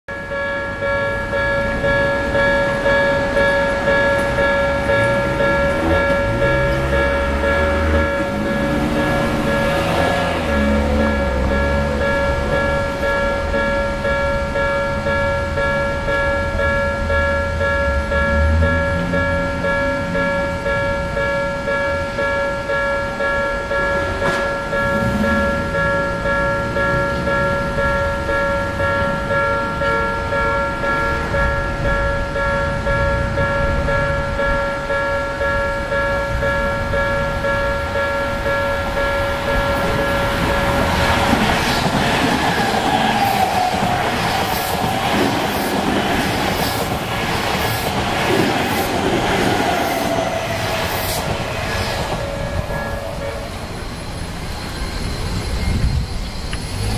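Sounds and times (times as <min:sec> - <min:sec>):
level crossing warning bell: 0:00.1 - 0:56.9
train rumble: 0:00.1 - 0:56.9.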